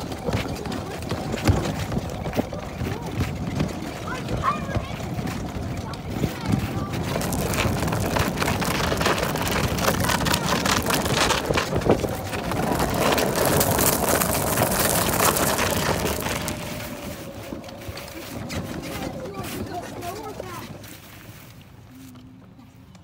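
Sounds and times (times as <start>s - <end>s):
golf cart tyres crackling on gravel: 0.0s - 21.9s.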